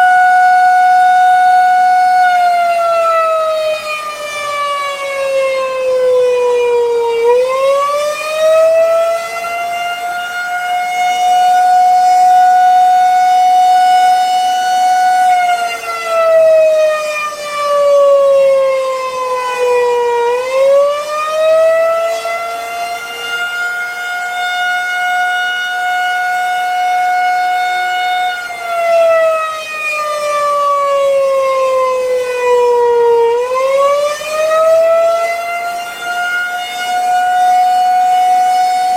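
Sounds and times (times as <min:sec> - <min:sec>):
electromechanical siren wailing: 0:00.0 - 0:38.9.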